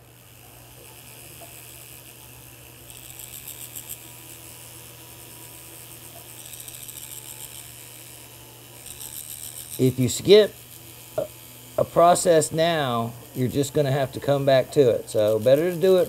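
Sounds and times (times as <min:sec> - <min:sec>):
rotary tool humming: 0:00.0 - 0:16.0.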